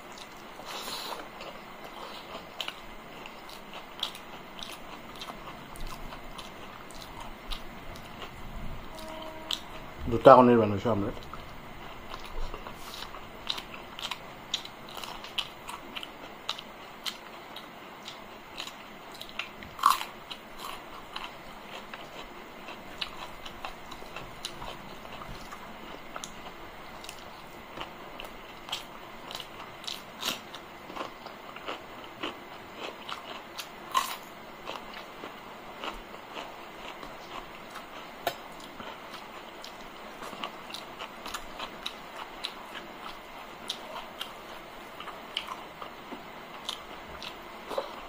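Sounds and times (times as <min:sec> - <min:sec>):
wet chewing: 0:00.1 - 0:09.7, 0:11.2 - 0:48.0.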